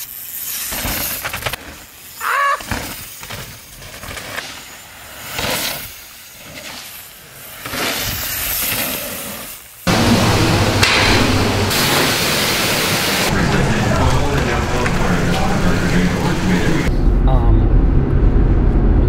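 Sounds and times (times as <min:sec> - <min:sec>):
mountain bikes passing: 0:00.0 - 0:16.9.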